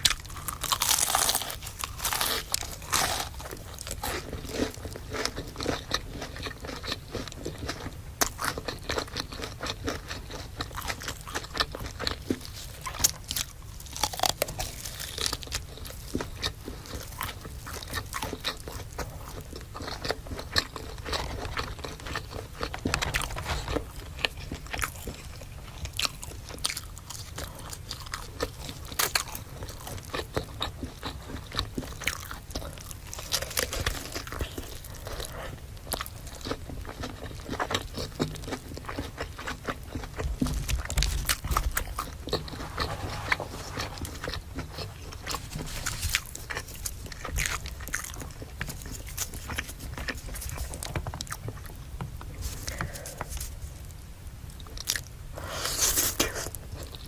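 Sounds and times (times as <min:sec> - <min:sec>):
chewing crunchy fried food: 0:00.0 - 0:57.0.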